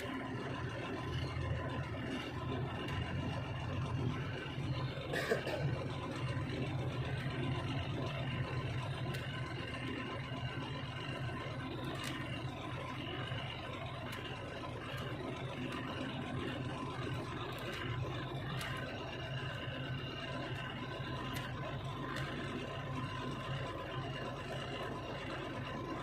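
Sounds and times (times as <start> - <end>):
truck engine drone: 0.0 - 26.0.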